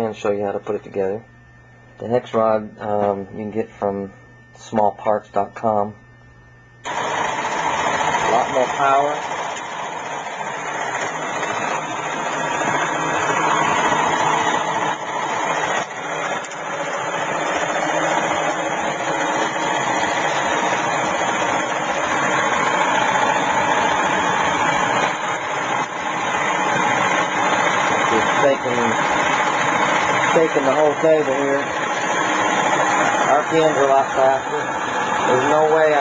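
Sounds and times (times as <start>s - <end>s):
electric motor whirring buzz: 6.8s - 36.0s.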